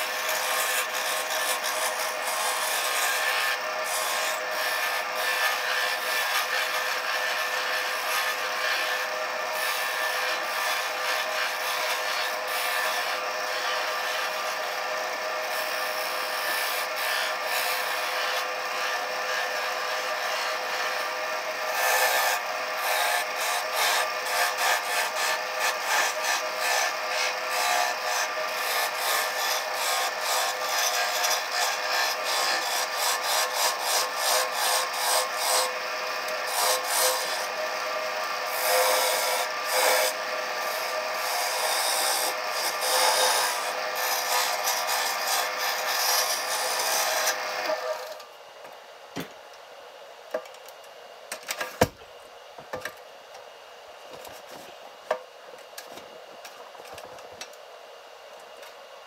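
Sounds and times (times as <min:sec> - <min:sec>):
turning tool cutting wood: 0:00.0 - 0:48.3
wood lathe humming: 0:00.0 - 0:48.3.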